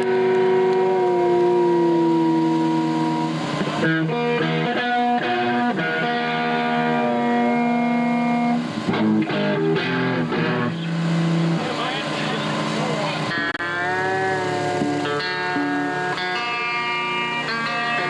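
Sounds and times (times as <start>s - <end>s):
electric guitars ringing: 0.0s - 18.0s.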